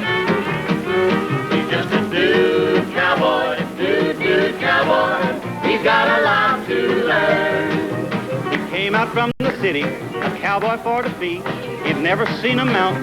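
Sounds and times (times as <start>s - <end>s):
country band playing instrumental: 0.0s - 13.0s.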